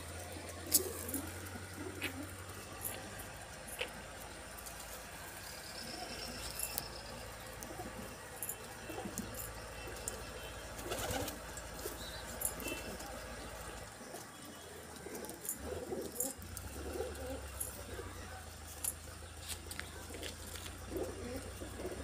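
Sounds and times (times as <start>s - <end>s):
pigeons cooing: 0.0s - 18.9s, 19.6s - 22.0s.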